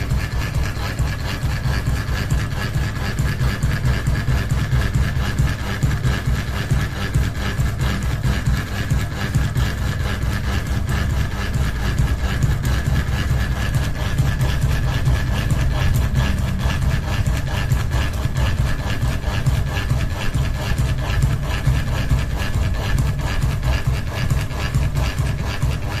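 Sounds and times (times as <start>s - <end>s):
unbalanced ceiling fan humming: 0.0s - 26.0s.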